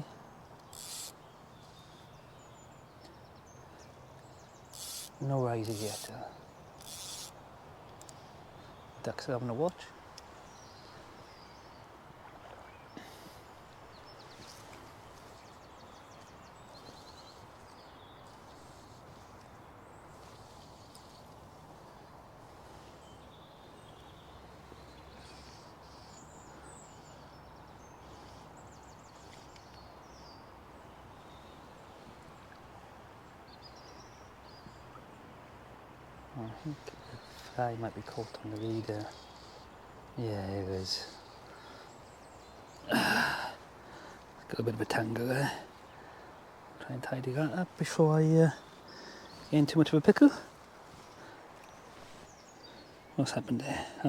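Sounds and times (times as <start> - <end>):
small birds chirping: 0.0 - 11.9, 12.6 - 32.5, 36.2 - 54.0.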